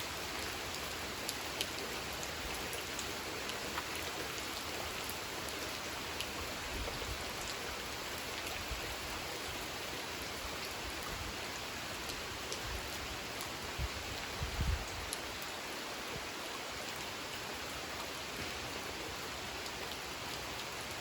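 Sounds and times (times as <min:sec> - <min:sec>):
rain falling on pond: 0:00.0 - 0:21.0.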